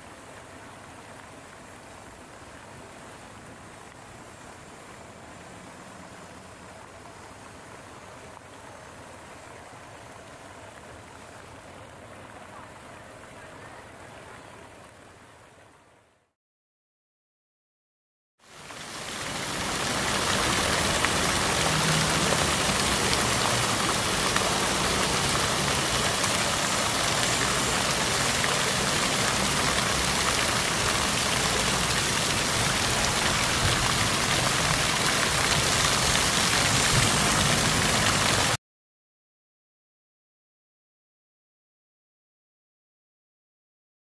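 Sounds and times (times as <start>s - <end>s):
fountain water splashing: 0.0s - 16.1s, 18.4s - 38.6s.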